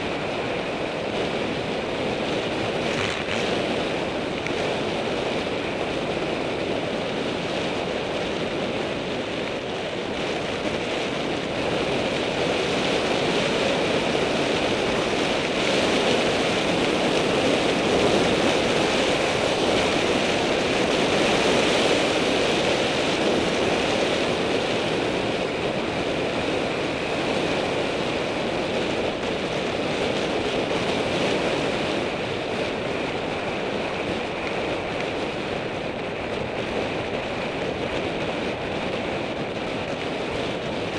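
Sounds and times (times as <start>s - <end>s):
tyres rolling on rough asphalt: 0.0s - 40.9s
wind rushing over microphone: 0.0s - 40.9s.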